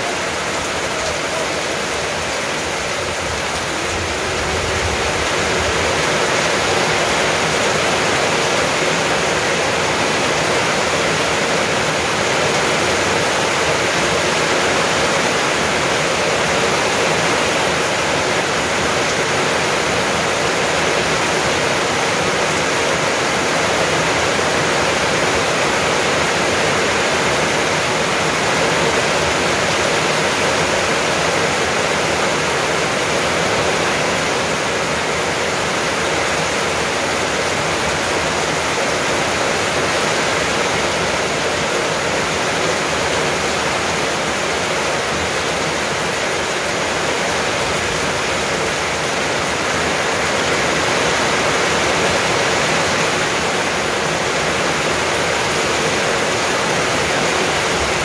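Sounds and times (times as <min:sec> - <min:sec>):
rain on paving and foliage: 0:00.0 - 0:58.0.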